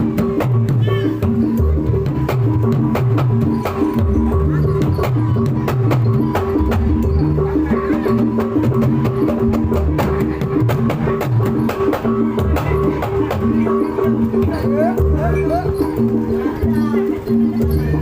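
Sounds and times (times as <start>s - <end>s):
rapid hand-drum strokes: 0.0s - 18.0s.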